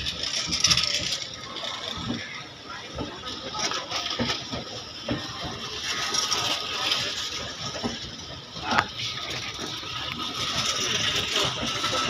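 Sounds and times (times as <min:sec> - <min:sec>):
train knocks and clicks: 0:00.0 - 0:12.0
train rattling: 0:00.0 - 0:12.0.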